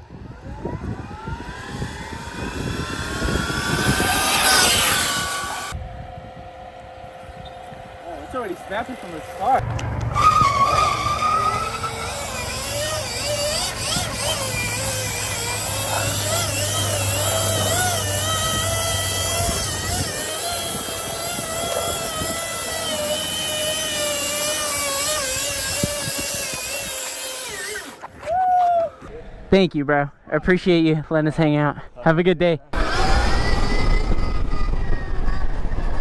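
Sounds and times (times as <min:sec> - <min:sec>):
wind rumbling on microphone: 0:00.0 - 0:08.0, 0:09.7 - 0:27.5, 0:32.8 - 0:36.0
electric motor whining: 0:00.0 - 0:28.1, 0:32.8 - 0:36.0.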